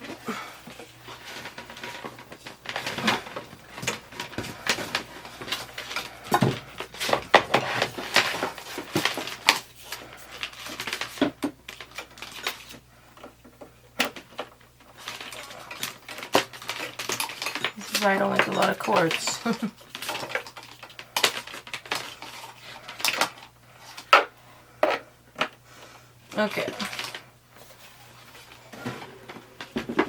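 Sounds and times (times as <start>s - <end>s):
plastic parts clicking and rustling: 0.0s - 25.6s, 26.3s - 30.0s.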